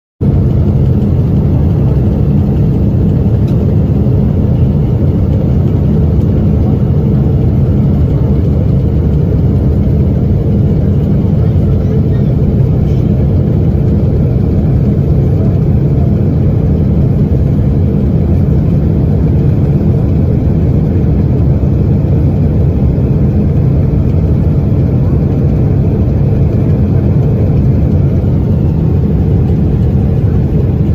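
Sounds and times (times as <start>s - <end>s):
jet engine rumble in cabin: 0.2s - 30.9s.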